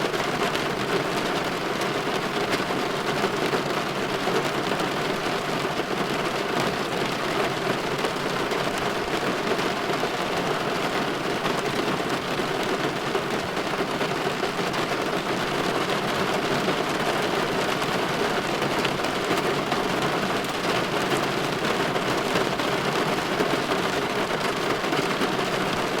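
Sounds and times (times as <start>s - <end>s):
rain on a window pane: 0.0s - 26.0s.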